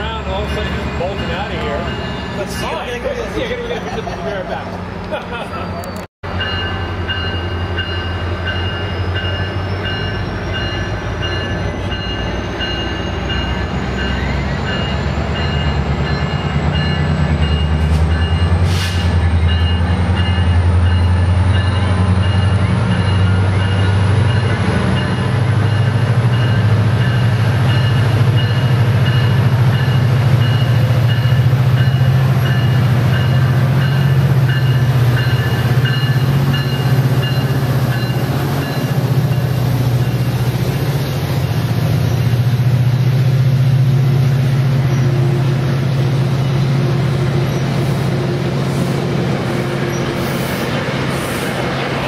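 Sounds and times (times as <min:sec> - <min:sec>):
train cars rolling past: 0:00.0 - 0:52.0.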